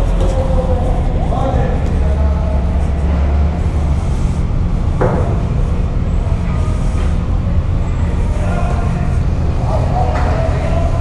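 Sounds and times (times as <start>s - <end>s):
ferry machinery droning: 0.0s - 11.0s.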